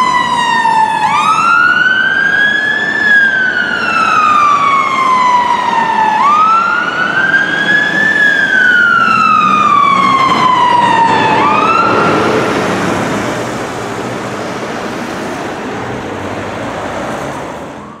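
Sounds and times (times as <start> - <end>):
fire engine siren wailing: 0.0 - 18.0
traffic road and engine noise: 0.0 - 18.0.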